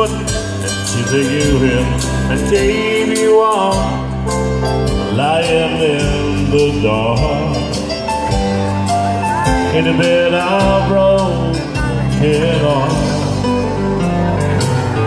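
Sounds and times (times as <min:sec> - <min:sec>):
man singing: 0:00.0 - 0:08.4, 0:09.4 - 0:14.7
country music over speakers: 0:00.0 - 0:15.0.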